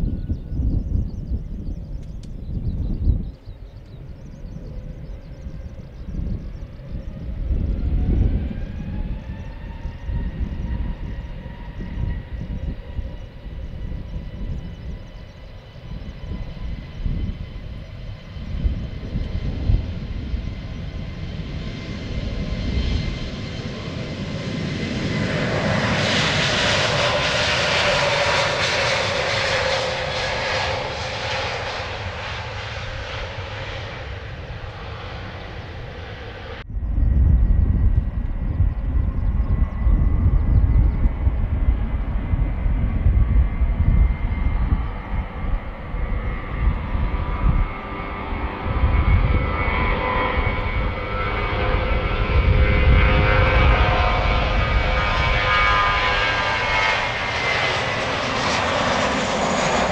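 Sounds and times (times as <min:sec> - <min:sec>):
gusty low rumble: 0:00.0 - 0:59.9
jet engines roaring at takeoff: 0:00.0 - 0:59.9.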